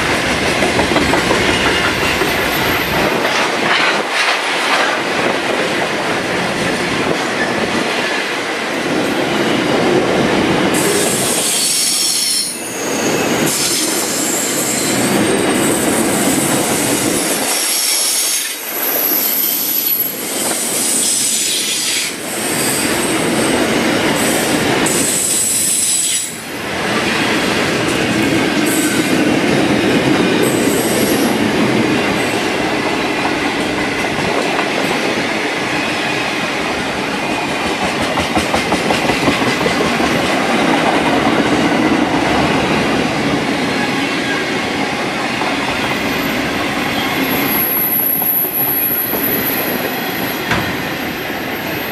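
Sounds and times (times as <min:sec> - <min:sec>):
steel wheels rumbling on rails: 0:00.0 - 0:51.9.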